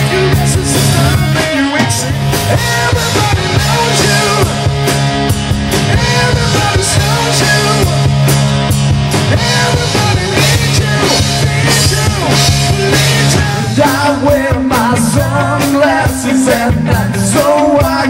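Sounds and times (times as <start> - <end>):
live rock band playing: 0.0 - 18.0
wavering melodic guitar line: 0.0 - 18.0.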